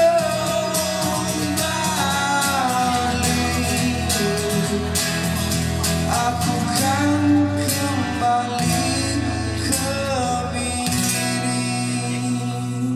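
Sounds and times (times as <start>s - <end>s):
acoustic guitar strumming: 0.0s - 12.9s
man singing into a microphone: 0.0s - 12.9s.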